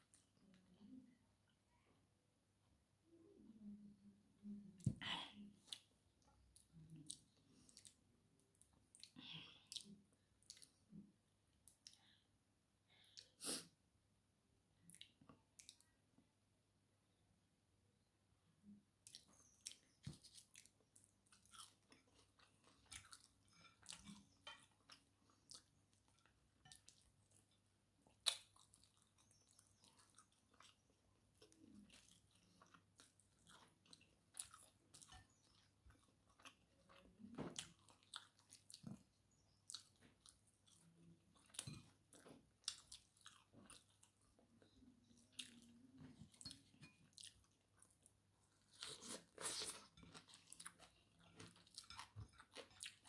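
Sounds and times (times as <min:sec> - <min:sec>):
chewing and crunching food: 0:04.4 - 0:12.2, 0:14.8 - 0:16.0, 0:18.6 - 0:53.0.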